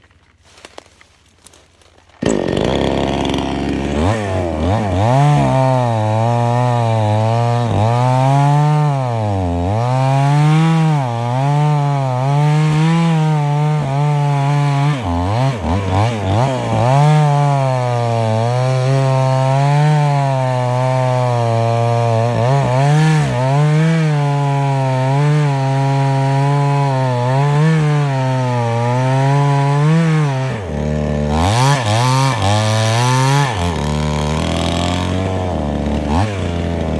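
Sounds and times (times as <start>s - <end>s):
chainsaw cutting wood: 2.1s - 36.9s.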